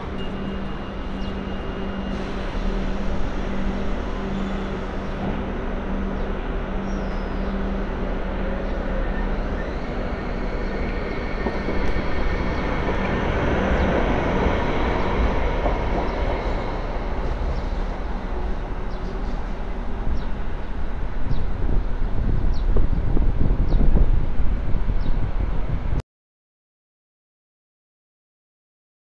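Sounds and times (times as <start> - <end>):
light rail vehicle passing: 0.0 - 26.0.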